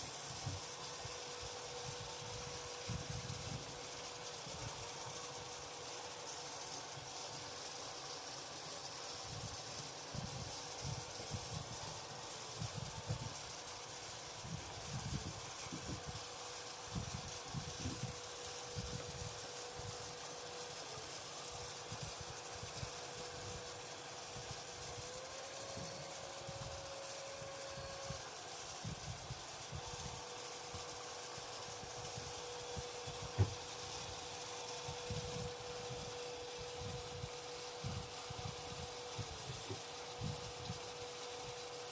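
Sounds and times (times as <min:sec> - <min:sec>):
robot vacuum motor whine: 0:00.0 - 0:41.9.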